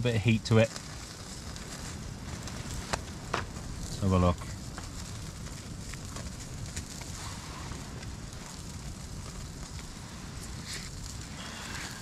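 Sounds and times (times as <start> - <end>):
campfire hissing: 0.0 - 12.0
fire crackles: 0.0 - 12.0.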